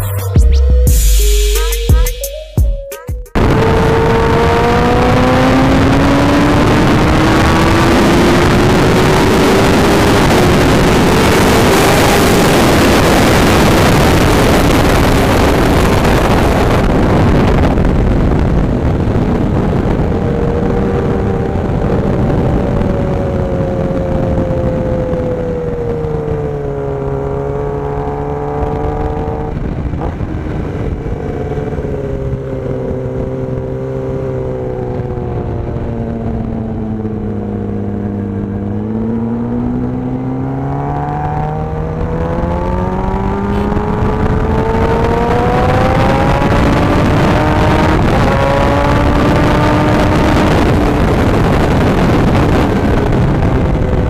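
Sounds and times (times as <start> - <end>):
motorcycle engine revving: 3.4 - 54.0
wind rushing on microphone: 3.4 - 54.0.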